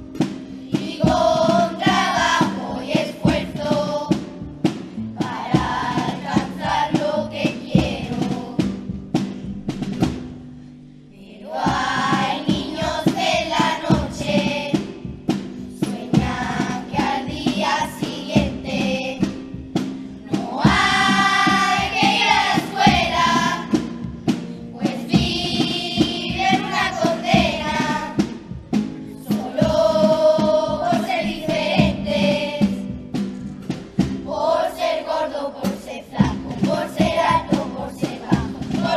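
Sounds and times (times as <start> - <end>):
instrumental backing with percussion: 0.0 - 10.9, 11.5 - 38.9
children's choir singing: 0.2 - 9.2, 11.1 - 33.2, 34.0 - 38.9.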